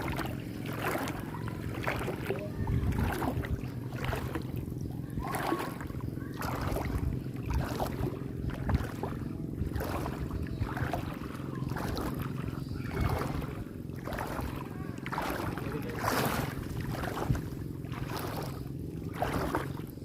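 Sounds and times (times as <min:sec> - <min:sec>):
footsteps splashing through water: 0:00.0 - 0:20.0
steady low rumble: 0:00.0 - 0:20.0.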